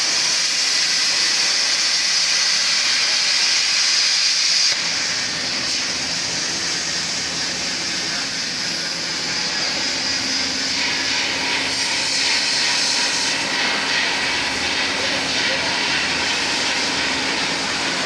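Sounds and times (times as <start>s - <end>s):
machine hiss and hum: 0.0s - 18.0s.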